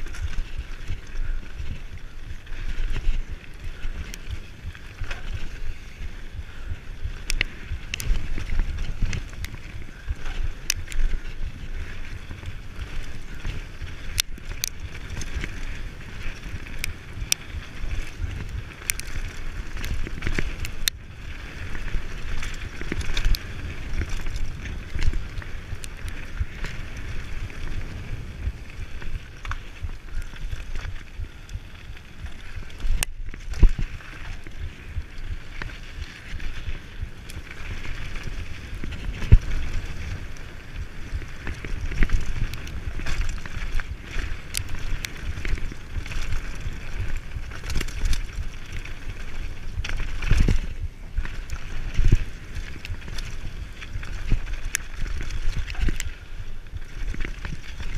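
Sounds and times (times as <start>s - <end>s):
bike rattling: 0.0s - 57.9s
bike tyres crunching on gravel: 0.0s - 57.9s
wind buffeting microphone: 0.0s - 57.9s.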